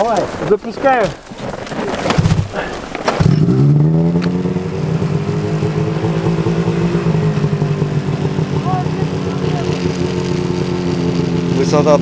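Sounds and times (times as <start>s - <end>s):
snowmobile engine starting and idling: 0.0s - 12.0s.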